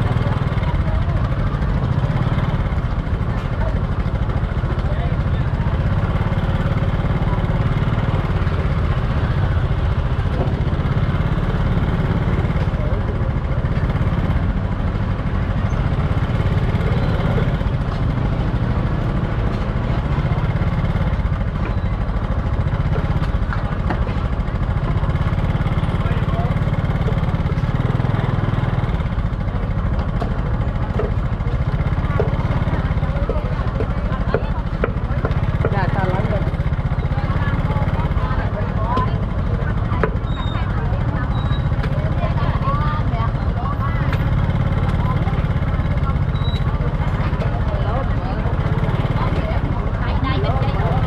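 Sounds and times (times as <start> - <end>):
market clatter: 0.0 - 51.0
scooter engine running: 0.0 - 51.0
voices: 0.0 - 51.0.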